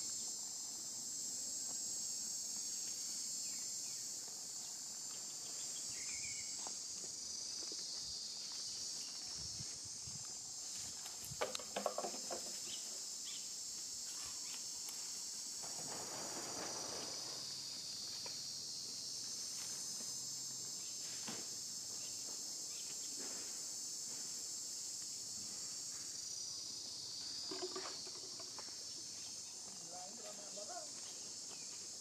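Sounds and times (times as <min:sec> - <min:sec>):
insects chorus: 0:00.0 - 0:32.0.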